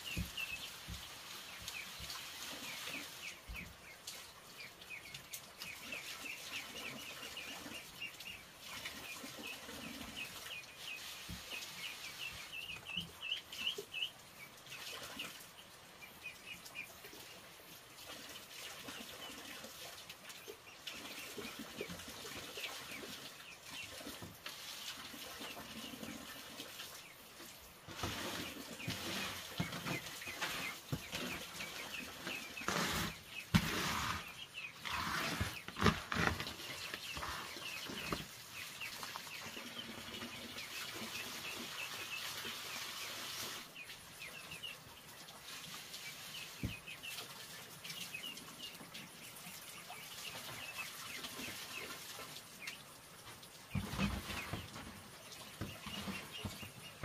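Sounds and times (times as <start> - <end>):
chicks peeping: 0.0 - 52.9, 53.6 - 57.0.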